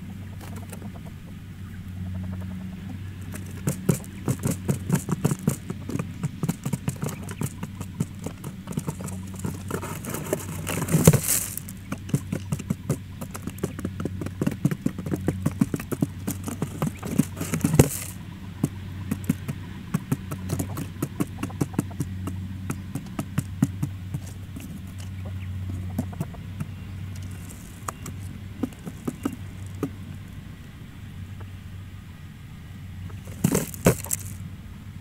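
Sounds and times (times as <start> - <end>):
quail pecking sharp taps: 0.0 - 30.4, 33.0 - 34.4
low steady hum: 0.0 - 35.0.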